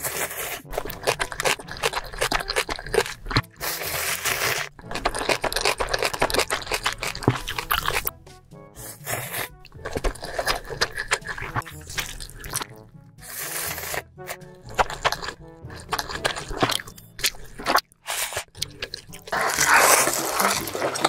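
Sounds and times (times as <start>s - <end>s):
background music: 0.0s - 21.0s
crunching and chewing food: 0.0s - 21.0s.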